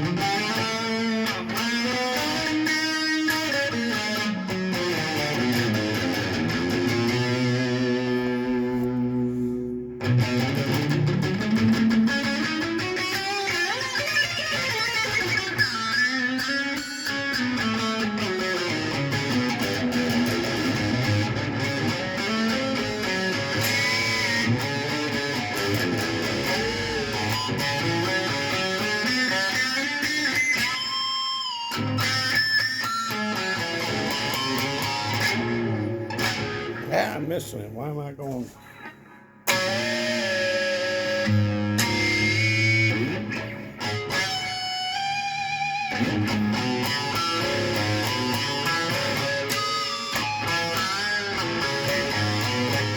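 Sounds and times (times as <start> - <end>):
ringing guitar harmonics: 0.0 - 36.9, 38.6 - 52.9
electric guitar lead with bends: 0.0 - 37.1, 38.6 - 52.9.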